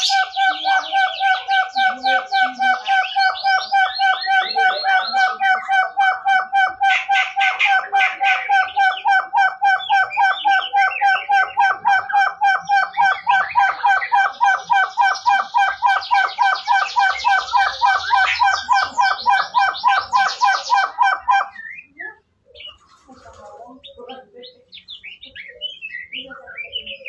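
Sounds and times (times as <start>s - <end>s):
partridge whistled calls: 0.0s - 23.0s
high chattering bird call: 0.0s - 27.0s.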